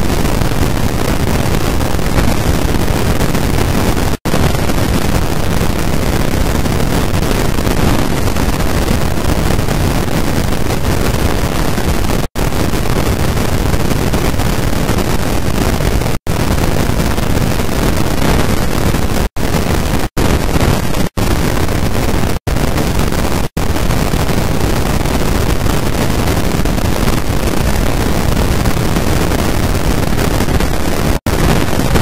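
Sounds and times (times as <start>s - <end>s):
loud steady rushing noise: 0.0s - 32.0s.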